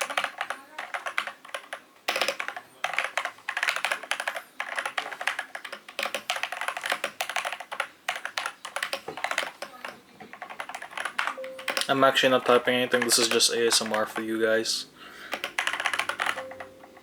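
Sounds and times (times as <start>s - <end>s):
mechanical keyboard typing: 0.0s - 17.0s.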